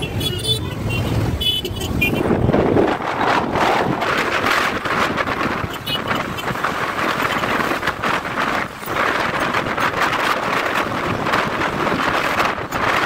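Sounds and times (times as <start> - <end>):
motorcycle engine: 0.0 - 12.8
road noise: 0.0 - 13.0
wind rushing over microphone: 0.8 - 13.0.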